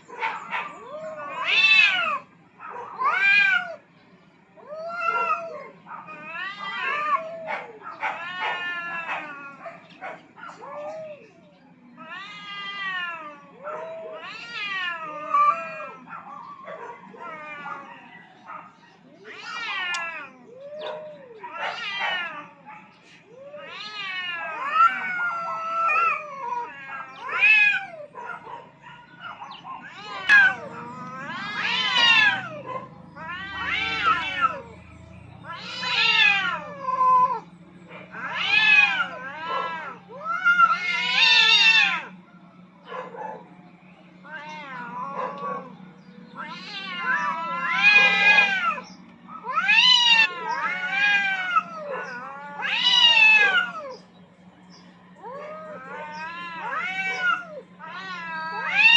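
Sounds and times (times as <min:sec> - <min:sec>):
cats yowling: 0:00.0 - 0:58.9.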